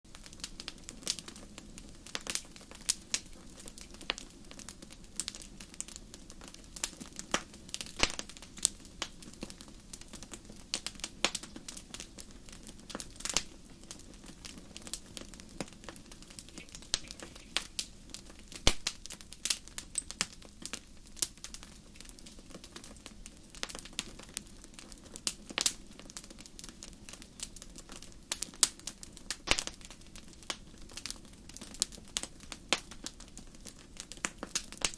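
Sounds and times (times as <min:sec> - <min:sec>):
low hiss of burning: 0:00.1 - 0:34.9
wood fire pops and snaps: 0:00.1 - 0:34.9.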